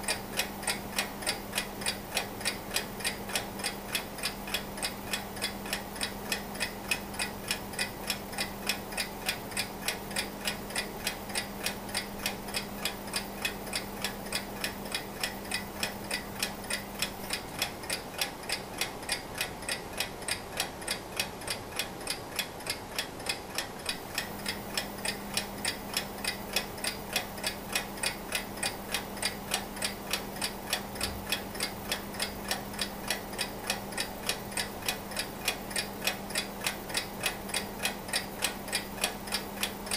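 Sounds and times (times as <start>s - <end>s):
mechanical alarm clock ticking: 0.0s - 39.9s.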